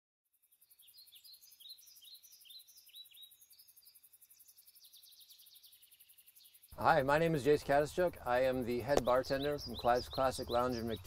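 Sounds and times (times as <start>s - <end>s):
small bird chirping: 0.2s - 11.0s.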